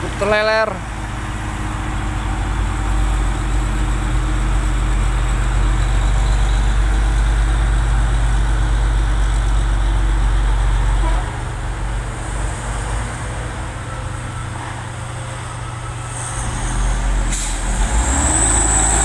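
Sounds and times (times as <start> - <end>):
truck diesel engine rumbling past: 0.0 - 19.0.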